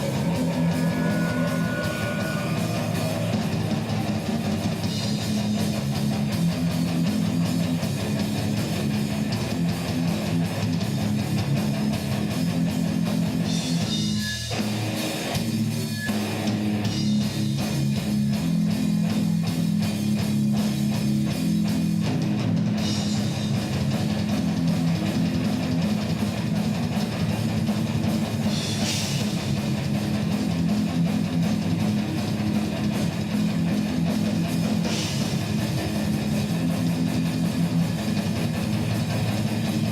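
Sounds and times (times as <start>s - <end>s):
rock music with electric guitar: 0.0s - 39.9s.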